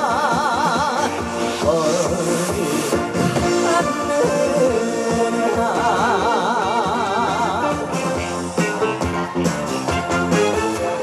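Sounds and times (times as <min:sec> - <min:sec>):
trot music over loudspeakers: 0:00.0 - 0:11.0.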